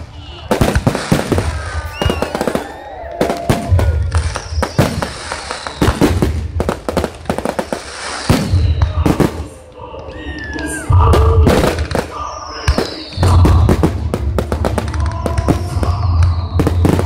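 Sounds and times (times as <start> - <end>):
deep fireworks booms: 0.0 - 9.8, 10.7 - 17.0
fireworks bangs and crackles: 0.0 - 17.0.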